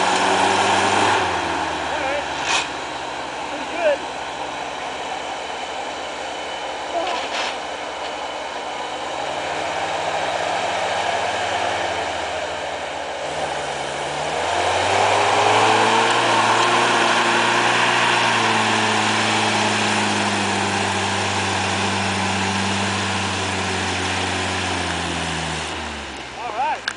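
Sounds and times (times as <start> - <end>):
truck engine pulling under load: 0.0 - 26.9.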